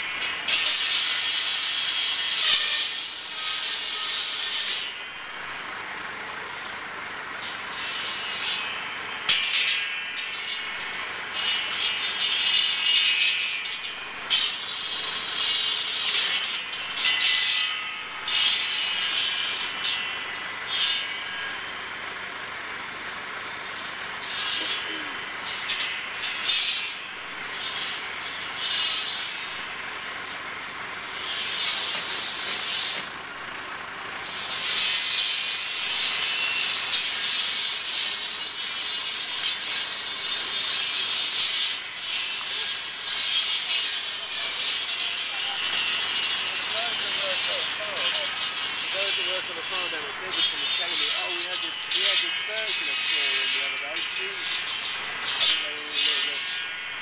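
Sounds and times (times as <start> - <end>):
circular saw cutting hedge stems: 0.0 - 57.0
tractor engine running: 0.0 - 57.0.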